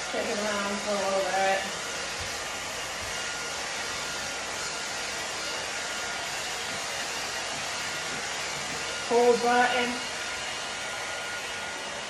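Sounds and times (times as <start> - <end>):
pet hair dryer blowing: 0.0 - 12.0.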